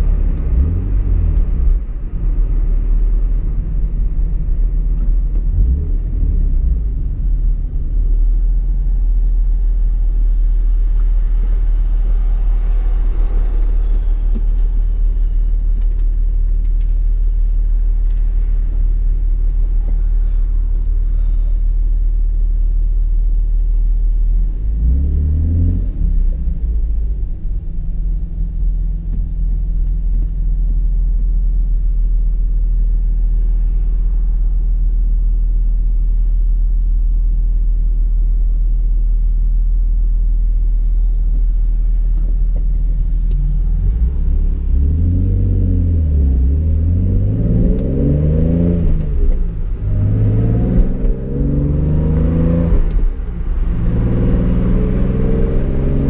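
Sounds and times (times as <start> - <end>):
car engine accelerating: 0.0 - 36.6, 40.5 - 56.0.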